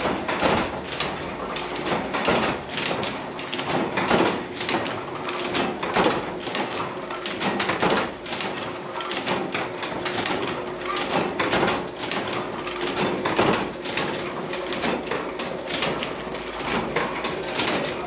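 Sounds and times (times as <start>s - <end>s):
printing press clattering: 0.0s - 18.0s.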